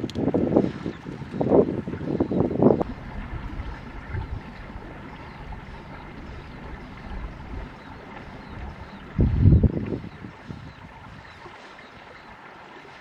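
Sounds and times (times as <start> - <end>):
wind rumble on microphone: 0.0 - 12.4.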